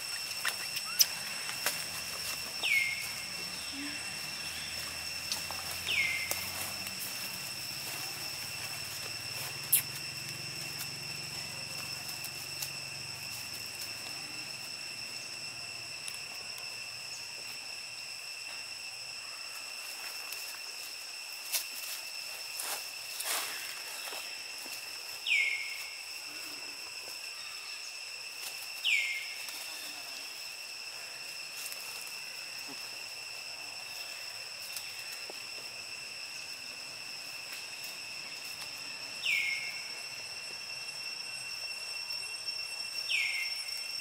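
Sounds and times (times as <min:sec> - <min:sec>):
high-pitched insect drone: 0:00.0 - 0:44.0.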